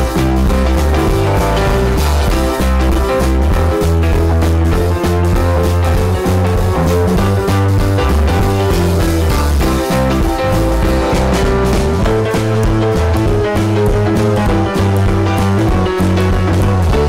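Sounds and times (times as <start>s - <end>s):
drum beat: 0.0s - 17.0s
guitar rock music: 0.0s - 17.0s.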